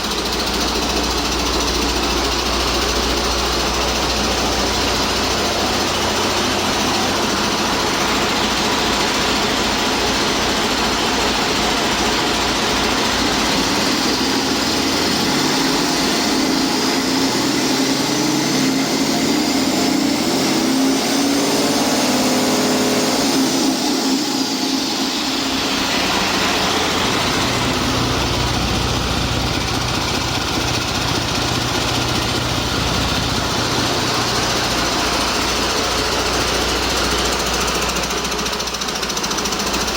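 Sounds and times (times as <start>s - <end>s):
diesel engine idling and revving: 0.0s - 39.9s
high engine whine: 0.0s - 39.9s.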